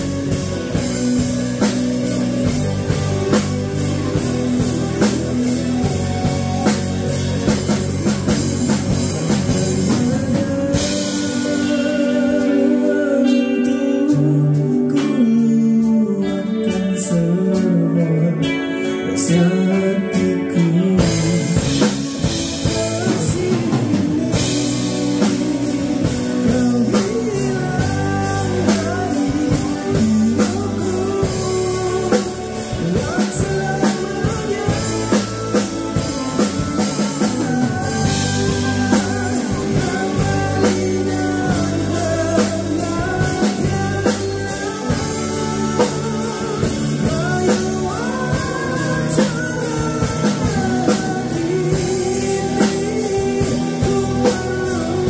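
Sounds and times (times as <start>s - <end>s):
drum kit beat: 0.0s - 17.7s, 19.8s - 55.0s
guitar: 0.0s - 55.0s
person singing: 0.0s - 55.0s.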